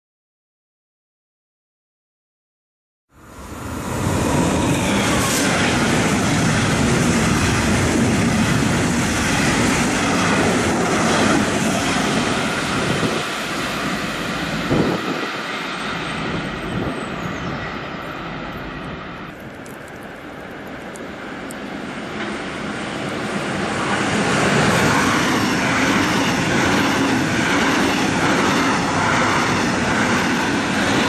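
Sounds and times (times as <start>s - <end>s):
train passing at speed: 3.1s - 31.0s.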